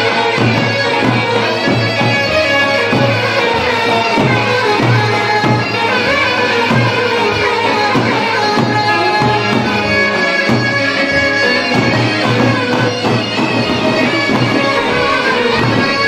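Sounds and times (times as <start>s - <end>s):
reedy wind instrument melody: 0.0s - 16.0s
steady drum beats: 0.0s - 16.0s.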